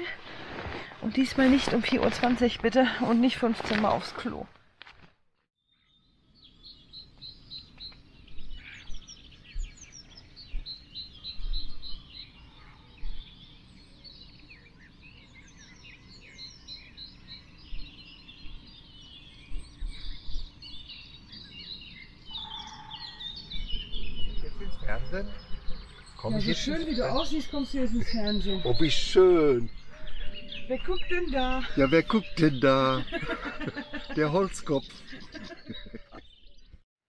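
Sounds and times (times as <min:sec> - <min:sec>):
songbirds chirping and trilling: 0:05.6 - 0:36.8.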